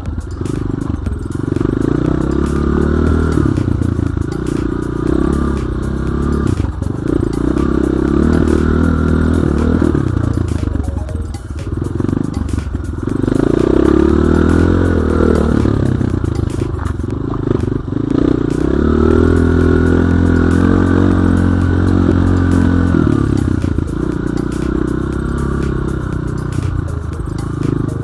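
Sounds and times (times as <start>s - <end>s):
dirt bike engine revving: 0.0s - 10.6s, 11.8s - 28.0s.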